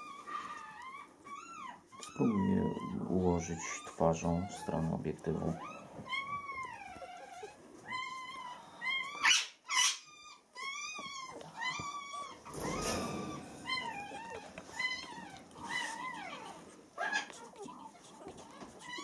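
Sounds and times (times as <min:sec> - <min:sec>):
puppies whimpering: 0:00.0 - 0:19.0.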